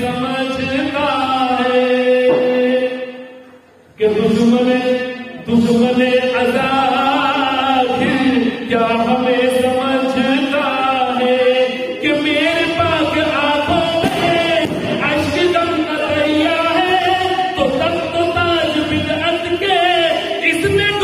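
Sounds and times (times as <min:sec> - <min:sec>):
man chanting into a microphone: 0:00.0 - 0:21.0.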